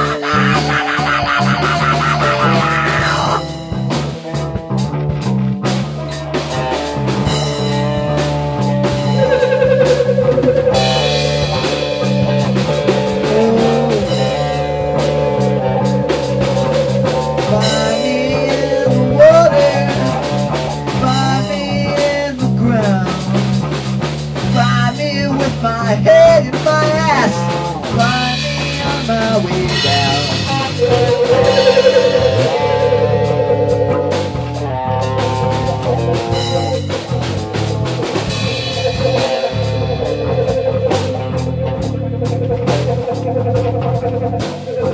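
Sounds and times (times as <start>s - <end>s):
bass guitar: 0.0s - 44.9s
drum kit: 0.0s - 44.9s
electric guitars playing: 0.0s - 44.9s.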